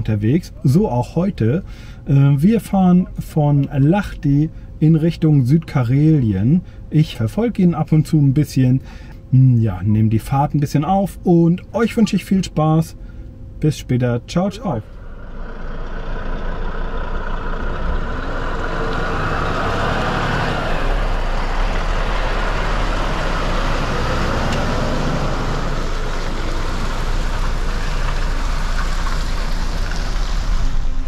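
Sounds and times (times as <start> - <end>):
vehicle road noise rumble: 0.0 - 31.0.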